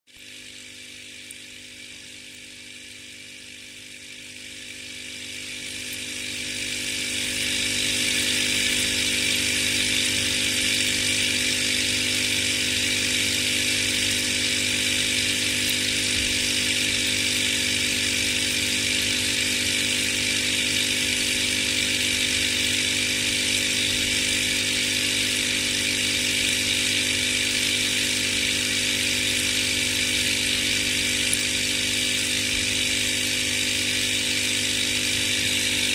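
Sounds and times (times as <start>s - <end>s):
electric buzzing hum with hiss: 0.1s - 35.9s.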